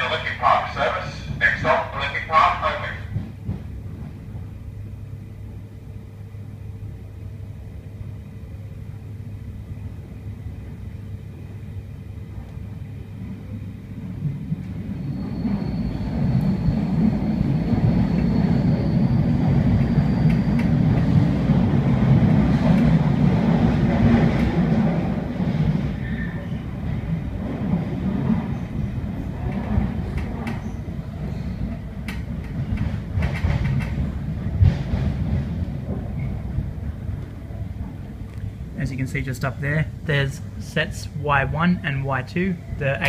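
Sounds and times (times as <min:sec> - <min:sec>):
electric train rumbling on track: 0:00.0 - 0:43.0.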